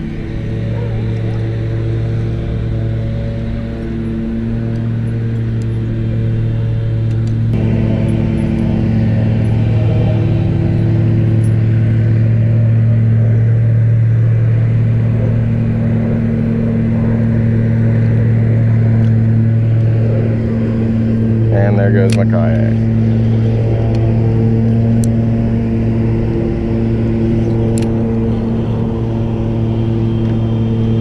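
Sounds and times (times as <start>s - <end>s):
small motor humming: 0.0s - 31.0s.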